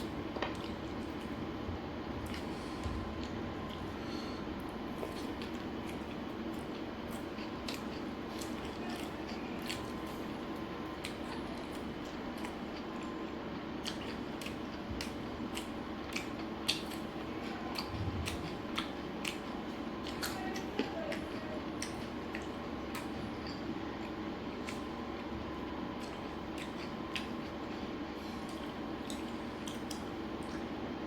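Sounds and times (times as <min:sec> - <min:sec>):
chewing and smacking food: 0:00.0 - 0:31.0.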